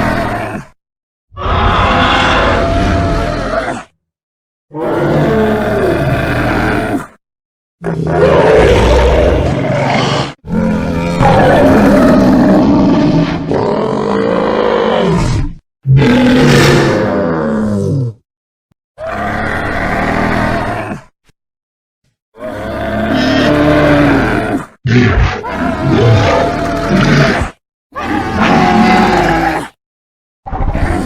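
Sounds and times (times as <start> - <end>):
low growling dinosaur roars: 1.4 - 3.9, 4.7 - 7.1, 7.8 - 18.2, 19.0 - 21.1, 22.4 - 29.8, 30.5 - 31.0.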